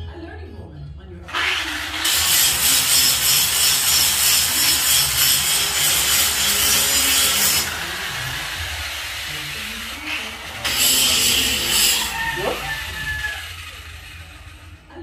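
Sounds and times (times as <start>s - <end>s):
harsh metalworking tool noise: 1.3s - 15.0s.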